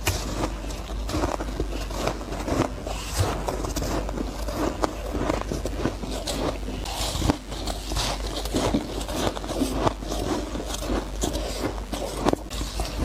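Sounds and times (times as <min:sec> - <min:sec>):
ice crunching while chewed: 0:00.0 - 0:13.0.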